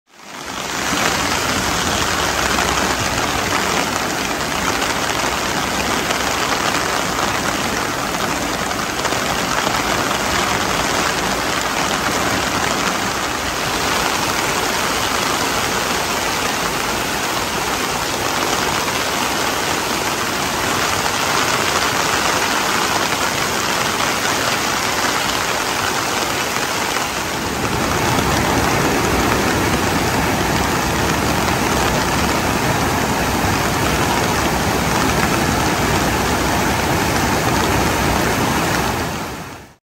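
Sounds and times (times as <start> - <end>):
river water roaring: 0.1 - 39.8.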